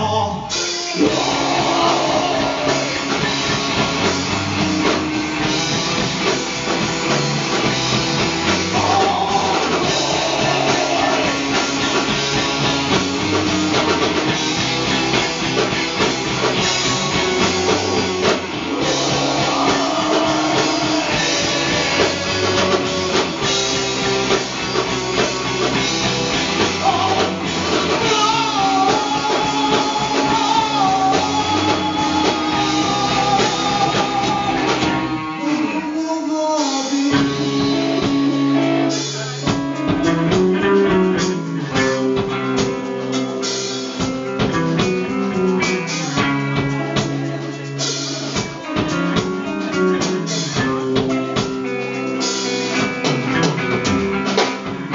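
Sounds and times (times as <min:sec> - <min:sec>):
live rock band playing: 0:00.0 - 0:54.9
repeating guitar riff with drums: 0:00.4 - 0:36.0, 0:37.0 - 0:54.9.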